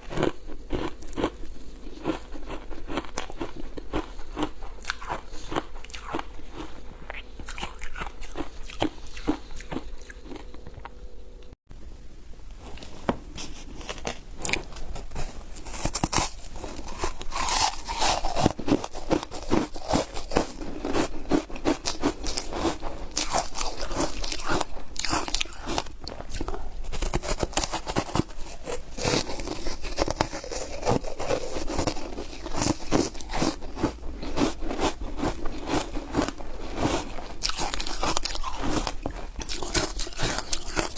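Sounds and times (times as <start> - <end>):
crunching and chewing foam ice: 0.0 - 11.0, 13.6 - 40.9.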